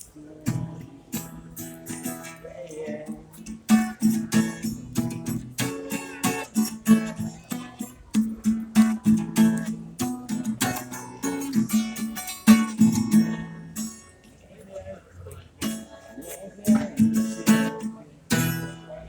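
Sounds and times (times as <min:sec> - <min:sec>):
acoustic guitar strumming: 0:00.0 - 0:14.3, 0:15.6 - 0:19.0.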